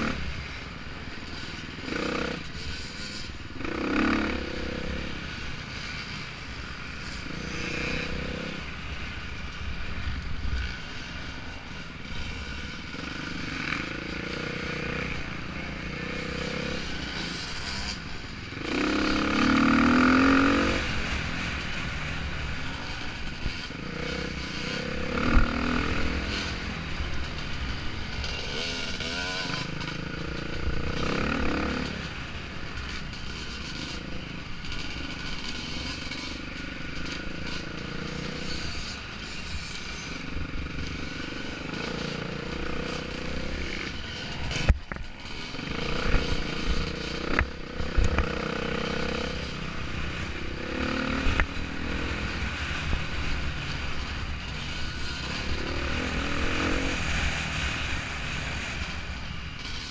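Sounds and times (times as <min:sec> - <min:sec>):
dirt bike engine revving: 0:00.0 - 0:09.6, 0:10.6 - 0:59.9.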